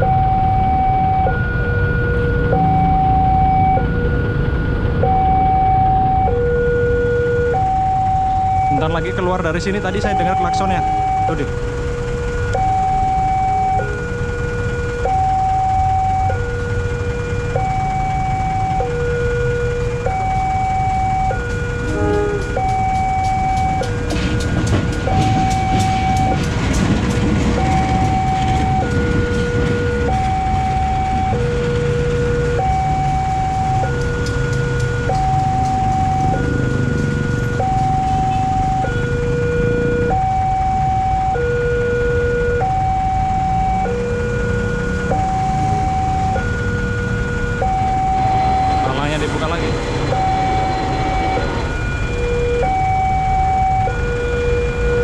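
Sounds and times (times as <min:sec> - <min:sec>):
steady low rumble: 0:00.0 - 0:54.9
level-crossing two-tone alarm: 0:00.0 - 0:55.0.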